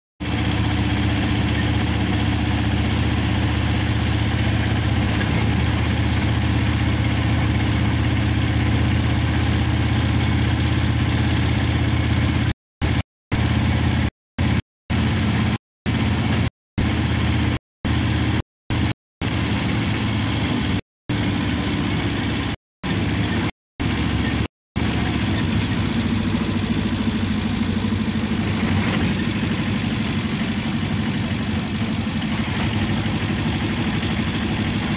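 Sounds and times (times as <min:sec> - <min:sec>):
vehicle engine and road drone: 0:00.2 - 0:34.9.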